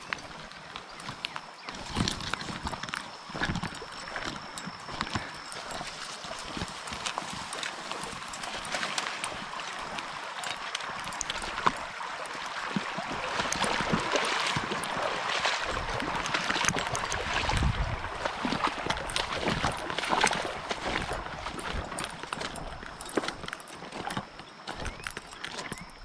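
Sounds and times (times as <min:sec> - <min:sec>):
footsteps crunching through dry grass: 0:00.0 - 0:26.0
footsteps on gravel: 0:00.0 - 0:26.0
stems rustling against clothing: 0:00.0 - 0:26.0.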